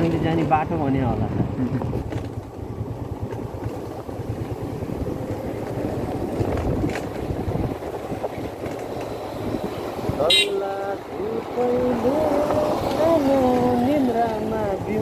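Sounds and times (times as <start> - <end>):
motorbike engine rumble: 0.0 - 15.0
wind buffeting microphone: 0.0 - 15.0.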